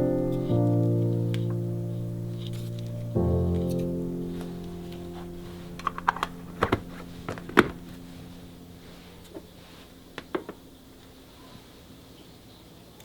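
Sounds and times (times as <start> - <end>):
background music: 0.0 - 10.9.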